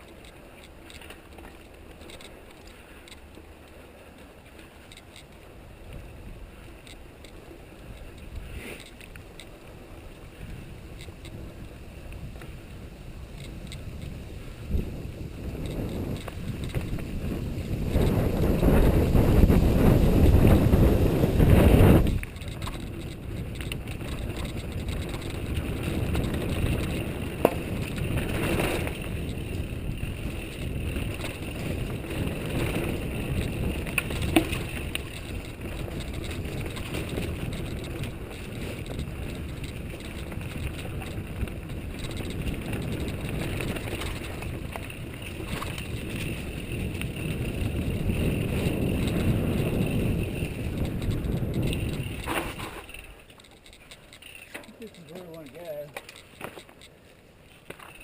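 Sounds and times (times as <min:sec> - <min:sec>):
wind rumbling on microphone: 0:00.0 - 0:56.8
bike frame rattling: 0:00.0 - 0:58.0
bike tyres rolling on dirt: 0:00.0 - 0:58.0.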